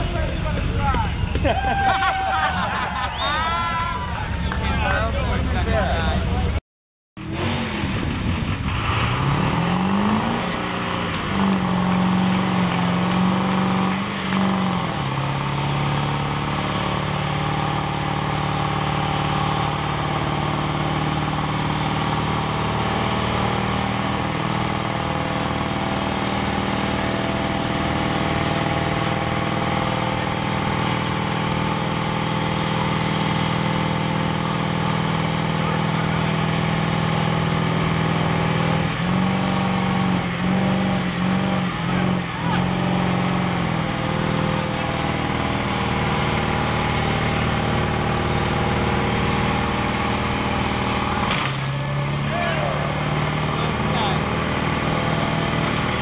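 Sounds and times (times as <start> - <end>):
tyres spinning in burnout: 0.1 - 6.5, 7.2 - 56.0
pickup truck engine revving: 7.2 - 56.0.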